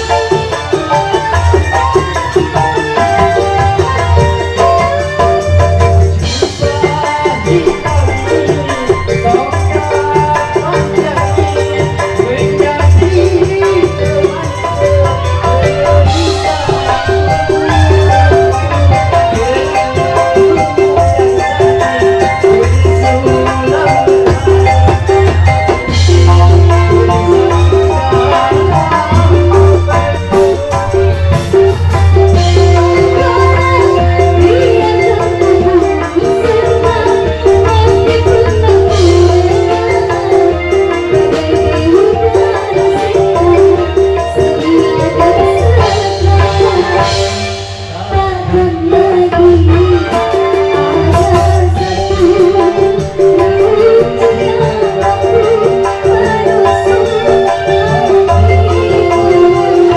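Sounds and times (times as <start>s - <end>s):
drums: 0.0s - 59.9s
wavering lead melody: 0.0s - 59.9s.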